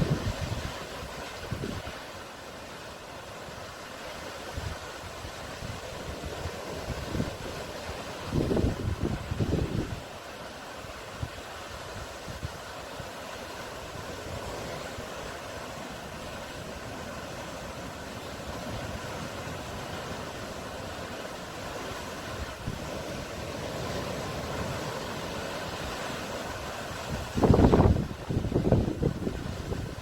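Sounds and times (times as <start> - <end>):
sea waves washing onto shore: 0.0 - 30.0.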